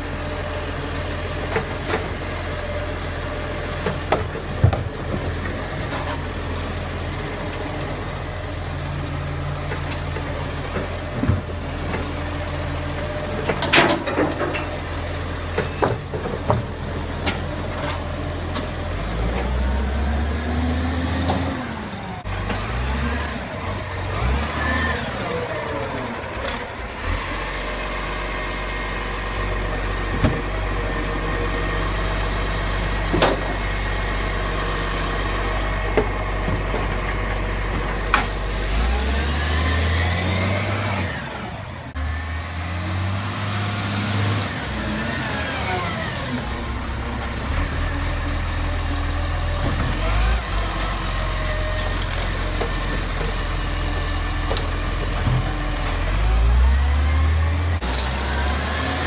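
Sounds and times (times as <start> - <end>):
garbage truck engine revving: 0.0 - 59.0.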